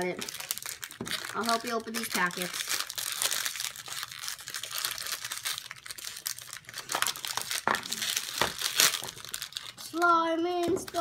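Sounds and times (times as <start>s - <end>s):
foil packets crinkling and tearing: 0.0s - 11.0s.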